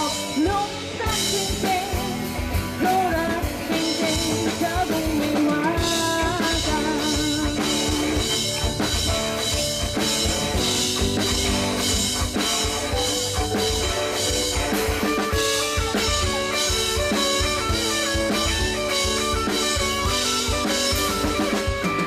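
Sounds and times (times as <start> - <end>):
bass and guitar: 0.0 - 22.0
drum kit beat: 0.0 - 22.0.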